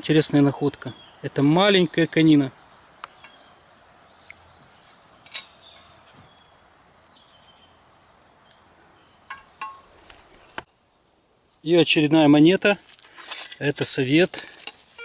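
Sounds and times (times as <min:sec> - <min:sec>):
faint forest ambience: 0:00.0 - 0:15.0.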